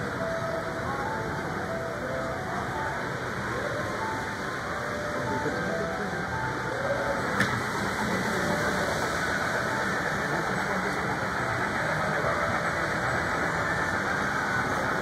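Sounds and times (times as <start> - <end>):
model trains rumbling on track: 0.0 - 15.0.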